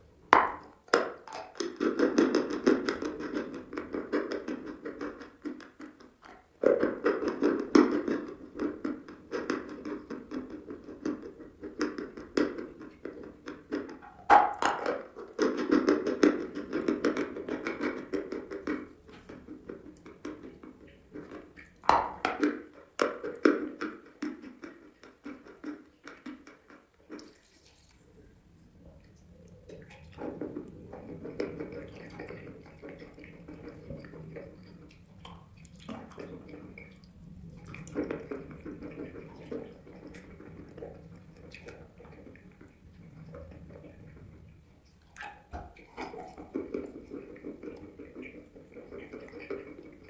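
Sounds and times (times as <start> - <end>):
wet chewing and mouth sounds: 0.1 - 50.0.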